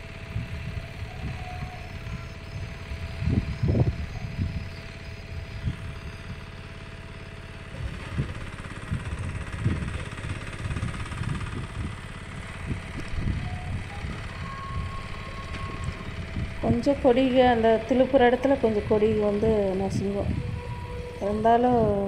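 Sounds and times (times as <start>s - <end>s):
power tiller engine running: 0.0s - 22.0s
wind on microphone: 0.2s - 6.3s, 7.8s - 22.0s.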